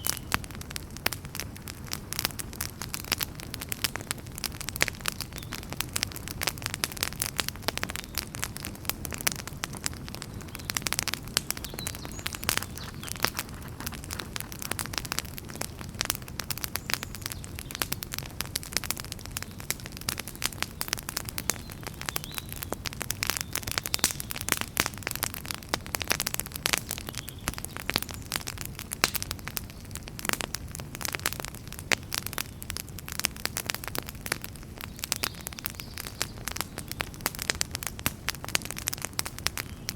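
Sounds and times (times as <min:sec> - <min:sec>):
wood fire crackling and popping: 0:00.0 - 0:39.9
low rumble of flames: 0:00.1 - 0:39.9.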